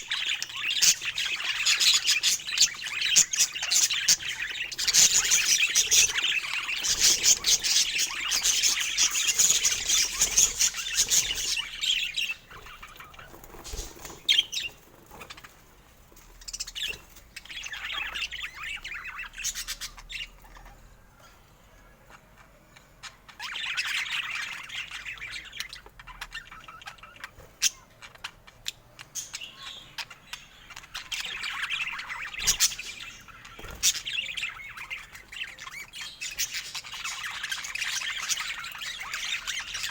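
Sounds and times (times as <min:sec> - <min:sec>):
budgerigar chirping and chattering: 0:00.0 - 0:15.6, 0:16.5 - 0:20.8, 0:22.1 - 0:39.9.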